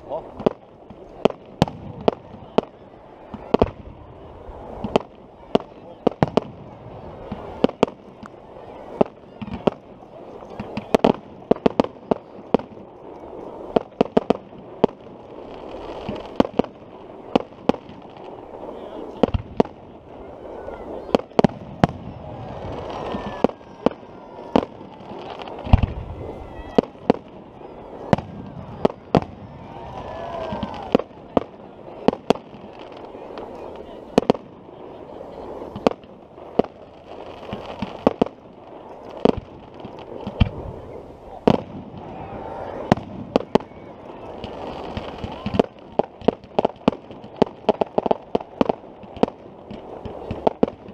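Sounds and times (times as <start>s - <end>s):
fireworks bangs: 0.0s - 50.9s.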